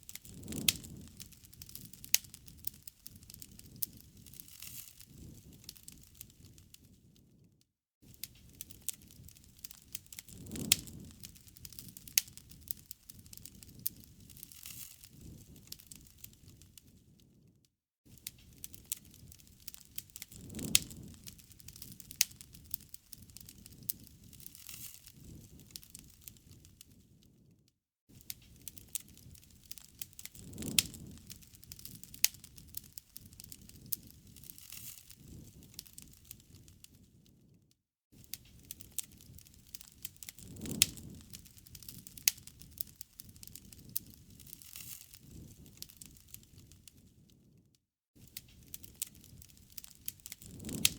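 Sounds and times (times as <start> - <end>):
campfire crackling and popping: 0.0 - 7.4, 8.0 - 17.4, 18.1 - 27.5, 28.1 - 37.6, 38.2 - 47.6, 48.2 - 50.9.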